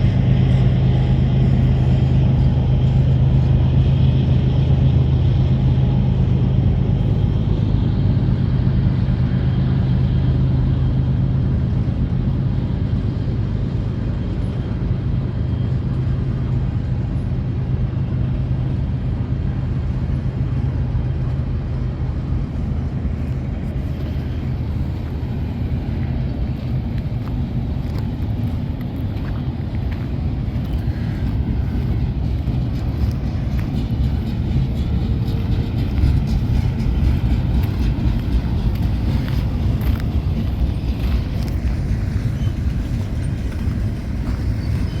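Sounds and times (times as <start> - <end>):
vehicle rumble with low hum: 0.0 - 45.0.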